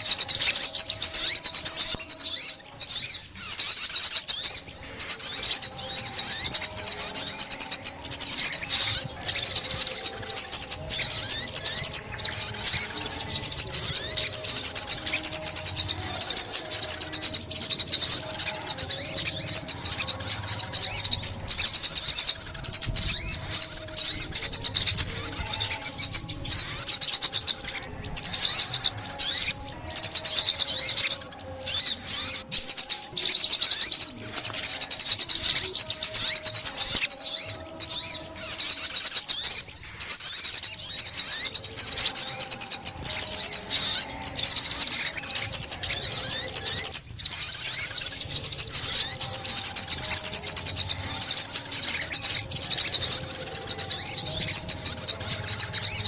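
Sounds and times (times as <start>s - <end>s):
bird twittering chirps: 0.0s - 56.0s.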